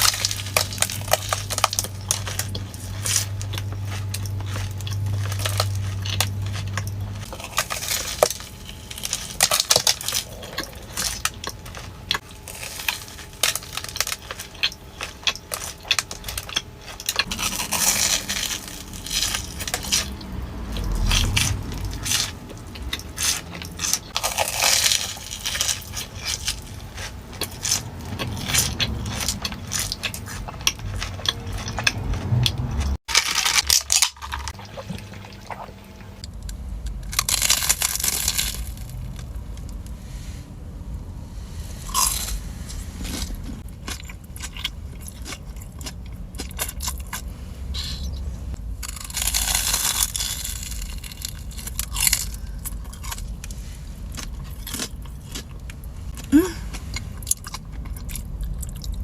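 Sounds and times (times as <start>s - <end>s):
crunching and chewing food: 0.0s - 59.0s.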